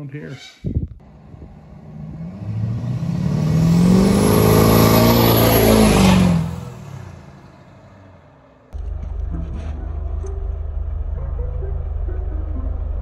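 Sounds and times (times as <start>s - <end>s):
pickup truck accelerating past: 1.0s - 13.0s.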